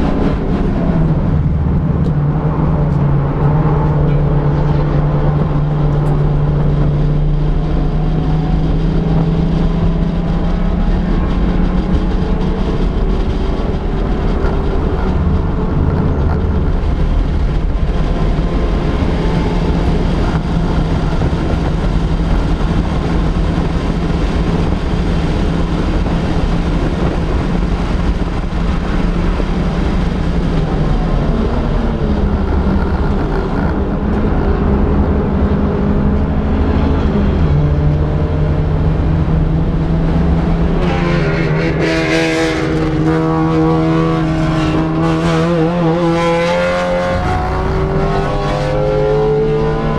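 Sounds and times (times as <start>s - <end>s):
race car engine running hard: 0.0s - 49.9s
wind and road noise: 0.0s - 49.9s.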